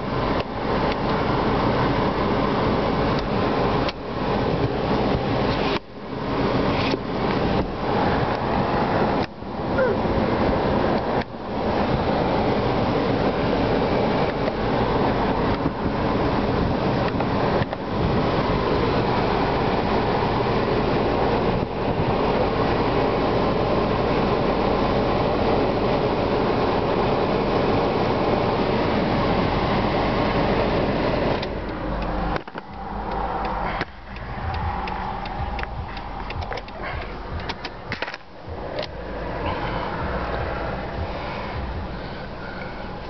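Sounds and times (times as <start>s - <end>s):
air conditioning blower rushing: 0.0s - 43.0s
car engine idling: 0.0s - 43.0s.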